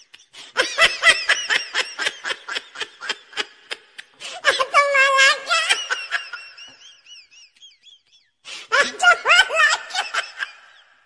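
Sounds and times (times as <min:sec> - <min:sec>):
laughter: 0:00.0 - 0:11.0.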